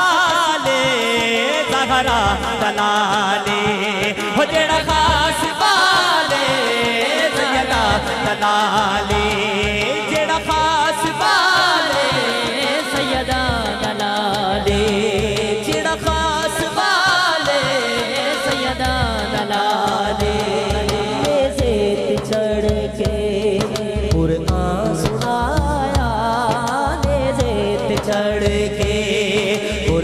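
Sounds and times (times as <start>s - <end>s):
man singing into microphone: 0.0s - 30.0s
low drum beat: 1.8s - 30.0s.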